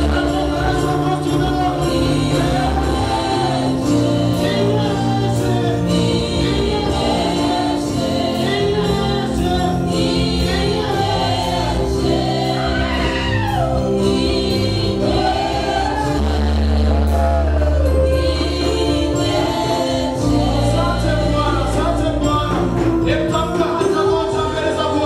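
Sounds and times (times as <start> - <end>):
band playing: 0.0 - 25.0
group singing gospel: 0.0 - 25.0
percussion beat: 0.0 - 25.0.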